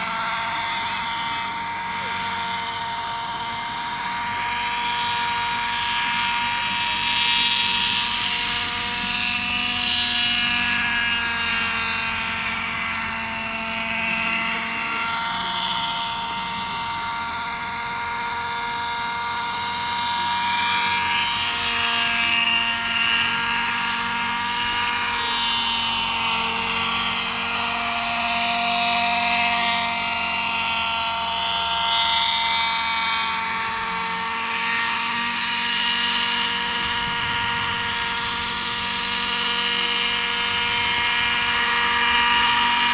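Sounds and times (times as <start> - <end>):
model helicopter engine whining: 0.0 - 42.9
rotor noise: 0.0 - 42.9.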